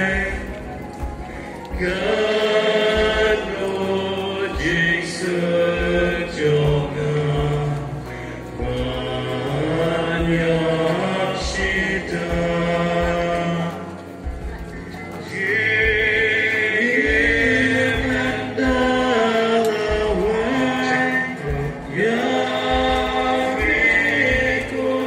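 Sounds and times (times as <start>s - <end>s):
group singing a hymn: 0.0s - 25.0s.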